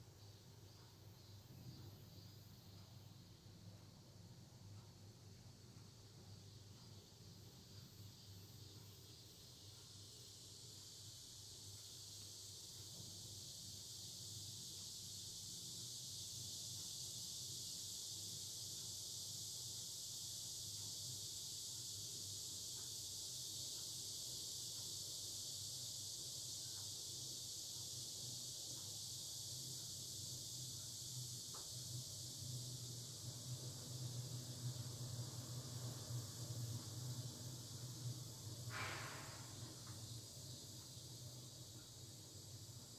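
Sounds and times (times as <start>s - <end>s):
cicadas buzzing: 8.1s - 42.9s.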